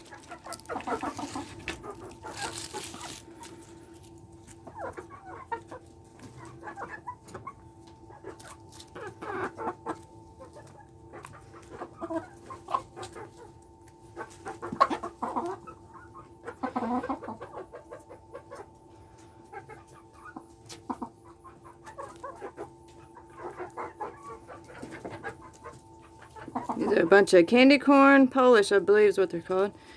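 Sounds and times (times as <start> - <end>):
chickens clucking: 0.0 - 29.9
faint steady hum: 0.0 - 29.9.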